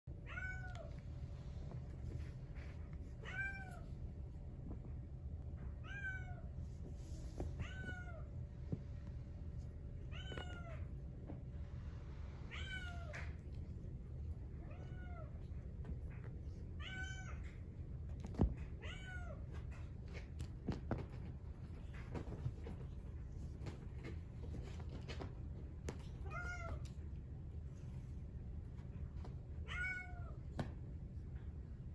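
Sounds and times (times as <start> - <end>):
steady low hum: 0.1 - 31.9.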